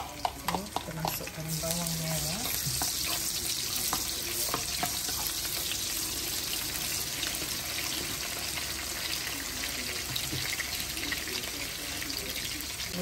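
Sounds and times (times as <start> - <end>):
shallots sizzling in oil: 0.0 - 13.0.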